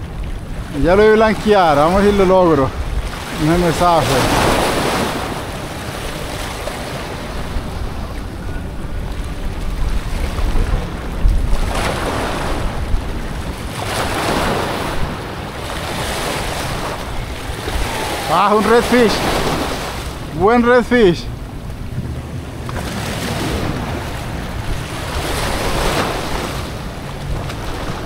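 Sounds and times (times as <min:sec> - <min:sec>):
waves breaking over rocks: 0:00.0 - 0:28.0
wind rumbling on microphone: 0:00.0 - 0:28.0.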